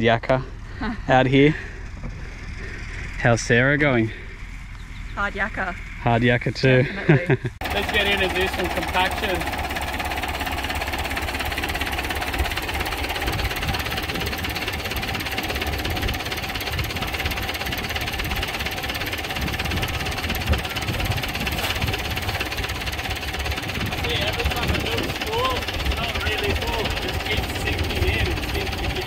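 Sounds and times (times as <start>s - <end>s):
tractor engine idling: 0.0s - 6.8s, 7.5s - 29.0s.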